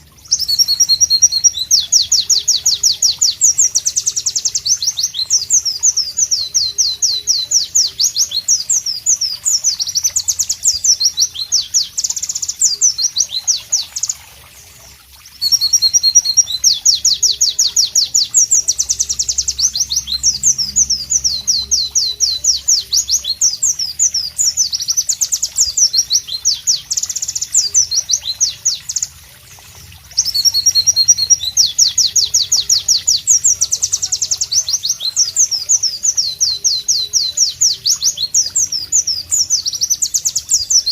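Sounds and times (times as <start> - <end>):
bird singing high rapid notes: 0.0 - 29.2, 30.1 - 40.9.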